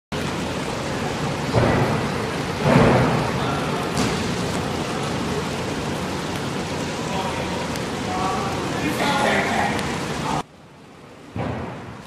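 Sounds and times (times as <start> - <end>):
steady rumbling hiss: 0.1 - 12.0.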